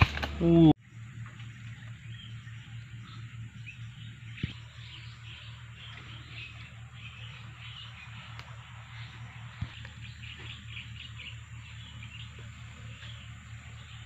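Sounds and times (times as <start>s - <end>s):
birds chirping: 0.0s - 14.0s
low steady hum: 0.0s - 14.0s
insects chirping: 0.8s - 14.0s.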